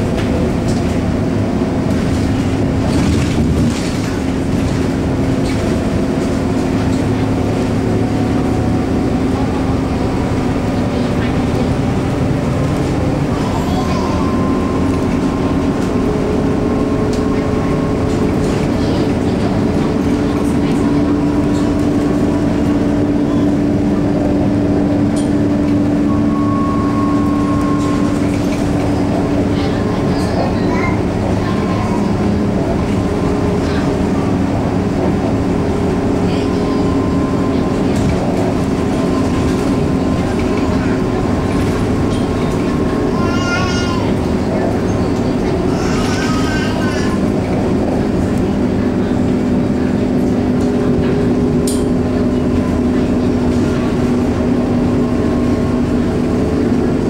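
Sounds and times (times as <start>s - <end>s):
bus engine drone: 0.0s - 57.0s
road noise: 0.0s - 57.0s.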